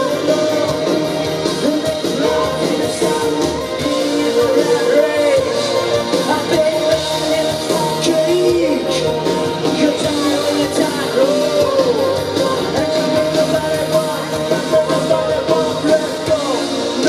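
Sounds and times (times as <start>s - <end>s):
electric guitar: 0.0s - 17.0s
live rock band: 0.0s - 17.0s
man singing: 0.0s - 17.0s.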